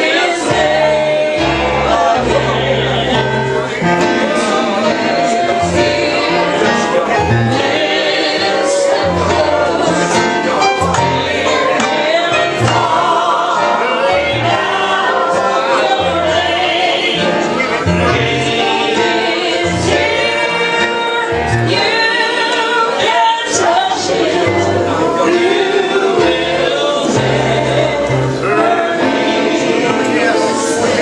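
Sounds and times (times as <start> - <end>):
group singing gospel song: 0.0 - 31.0
instrumental accompaniment: 0.0 - 31.0.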